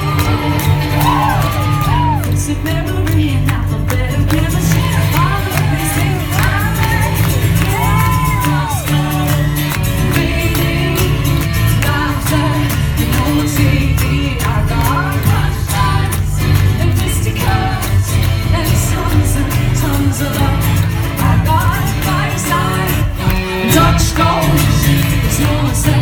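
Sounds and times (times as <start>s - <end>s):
live band playing pop song: 0.0s - 26.0s
woman singing: 0.0s - 26.0s.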